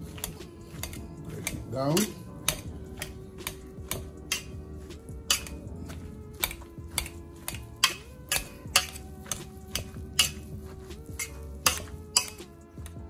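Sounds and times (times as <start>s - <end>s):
background music with held notes: 0.0s - 13.0s
potato masher knocking a metal pot: 0.0s - 13.0s.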